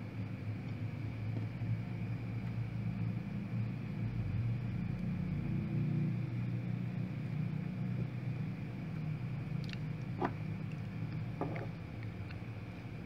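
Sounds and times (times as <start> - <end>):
low rumbling hum: 0.0 - 13.0.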